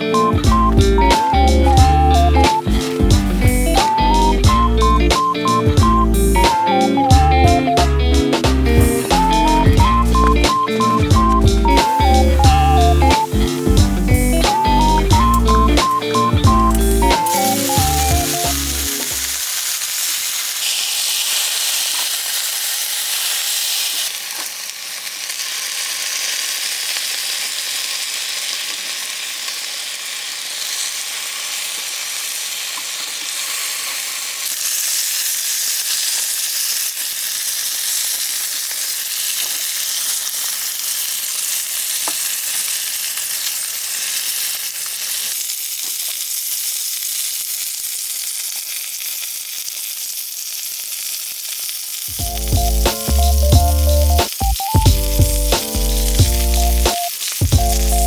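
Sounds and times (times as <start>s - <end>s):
steady sizzling hiss: 0.0s - 58.0s.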